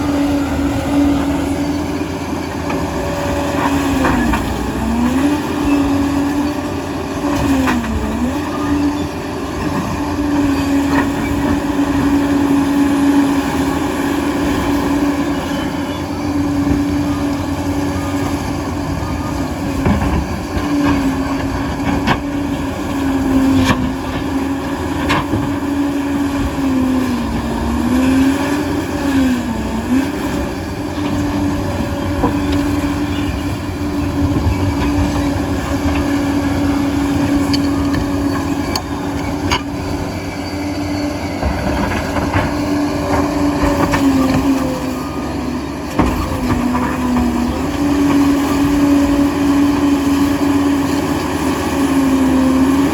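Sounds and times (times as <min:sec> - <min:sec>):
dozer diesel engine droning: 0:00.0 - 0:52.9
steel tracks clanking: 0:00.0 - 0:52.9.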